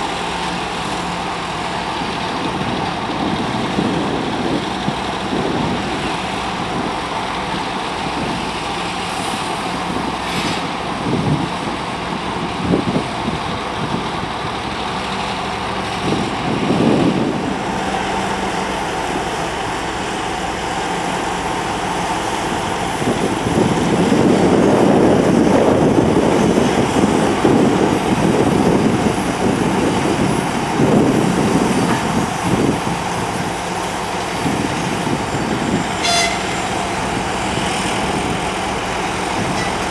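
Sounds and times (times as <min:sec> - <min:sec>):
diesel locomotive engine droning: 0:00.0 - 0:39.9.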